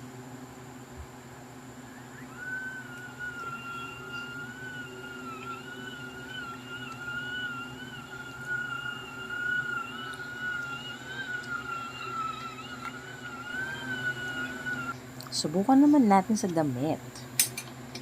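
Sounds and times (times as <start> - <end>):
high motor whine: 0.0 - 18.0
low hum: 0.0 - 18.0.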